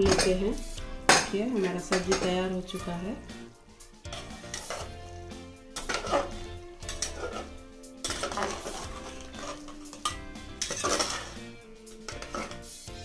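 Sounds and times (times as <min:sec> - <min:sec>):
metal ladle scraping a pot: 0:00.0 - 0:02.7, 0:04.0 - 0:12.8
background music: 0:00.0 - 0:13.0.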